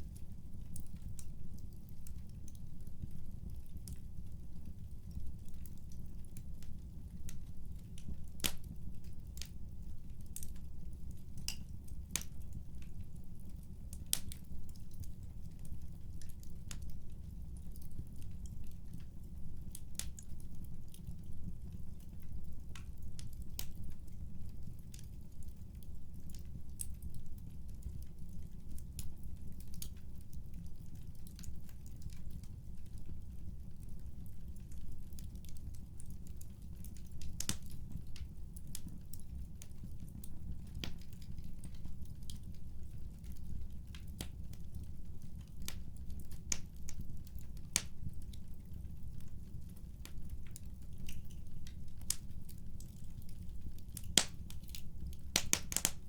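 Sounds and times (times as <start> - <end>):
fire popping and snapping: 0.0 - 56.0.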